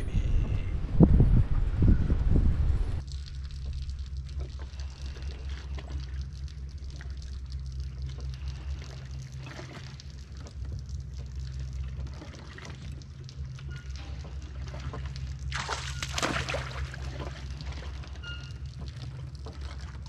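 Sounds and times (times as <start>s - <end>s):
steady low hum: 0.0s - 20.0s
waves lapping against boat hull: 3.0s - 20.0s.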